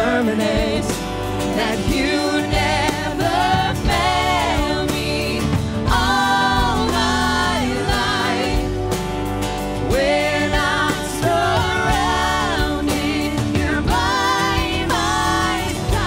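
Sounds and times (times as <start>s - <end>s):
voices singing together: 0.0s - 9.1s, 9.8s - 16.0s
acoustic and electric guitars: 0.0s - 16.0s
band accompaniment: 0.0s - 16.0s.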